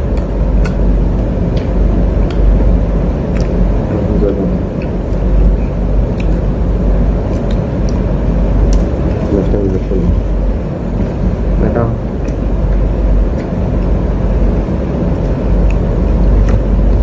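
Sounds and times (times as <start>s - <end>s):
low rumble: 0.0s - 17.0s
eating clicks and smacks: 0.1s - 3.9s, 4.7s - 9.7s, 12.1s - 17.0s.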